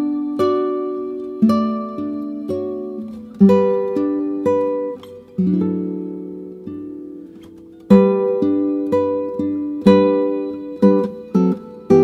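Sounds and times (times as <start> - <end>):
plucked string instrument: 0.0 - 12.0.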